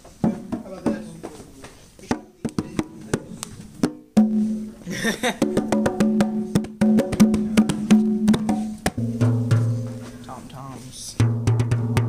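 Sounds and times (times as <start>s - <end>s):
conga drums struck by hand: 0.2s - 1.3s, 2.0s - 10.3s, 11.2s - 12.0s.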